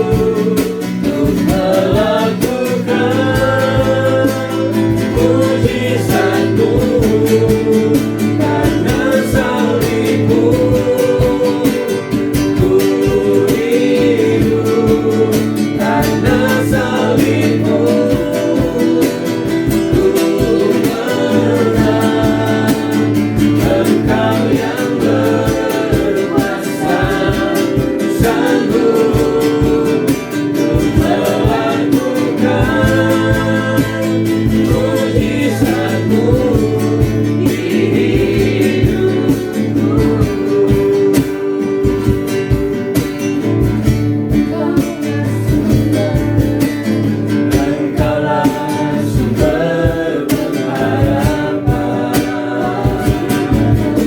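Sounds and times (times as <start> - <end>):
guitar with steady beat: 0.0 - 54.0
worship song singing: 0.0 - 54.0.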